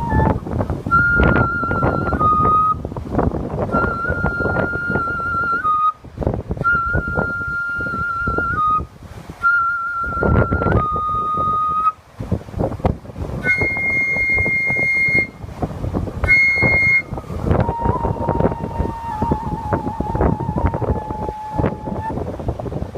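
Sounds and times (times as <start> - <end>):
flute playing long notes: 0.0 - 12.0, 13.3 - 22.5
wind buffeting microphone: 0.0 - 22.9.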